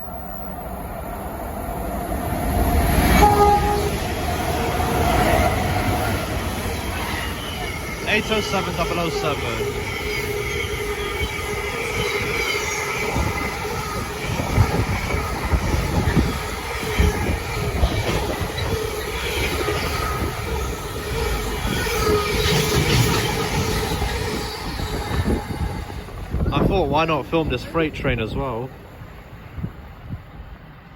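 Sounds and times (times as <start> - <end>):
train rolling rumble: 0.0 - 30.9.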